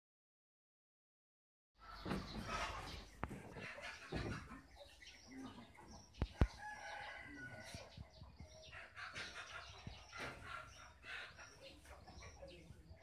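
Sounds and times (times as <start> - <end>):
chickens clucking: 1.8 - 13.0.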